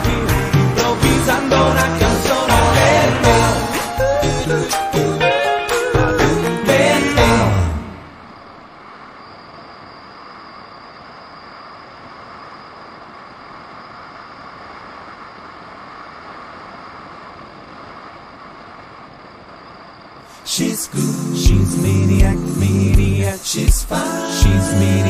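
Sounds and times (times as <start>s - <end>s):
faint high whine: 0.0s - 25.0s.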